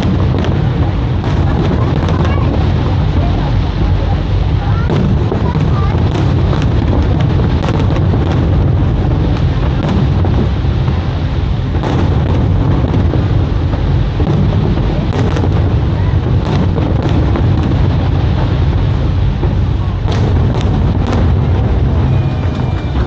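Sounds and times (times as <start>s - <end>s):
deep rumble: 0.0s - 23.0s
fireworks bangs: 0.0s - 23.0s.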